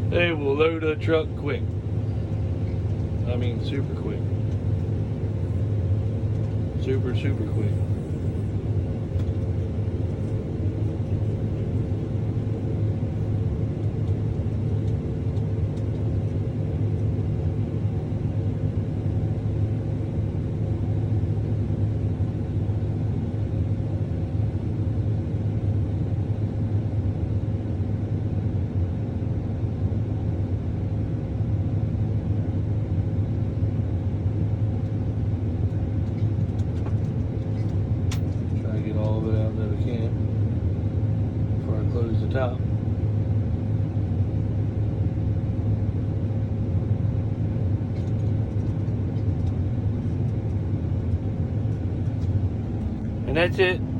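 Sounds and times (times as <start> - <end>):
combine harvester droning: 0.0 - 53.9.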